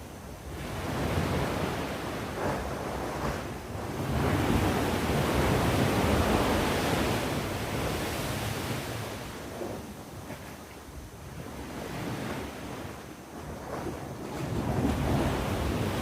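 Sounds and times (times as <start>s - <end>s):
sea waves breaking on shore: 0.2s - 16.0s.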